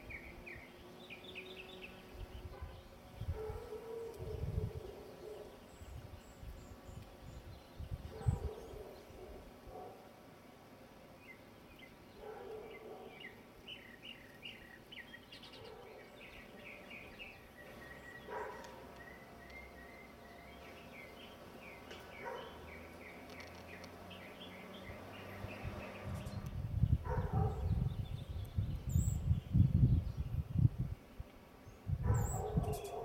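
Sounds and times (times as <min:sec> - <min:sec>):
small birds chirping: 0:00.0 - 0:10.1, 0:11.0 - 0:33.0.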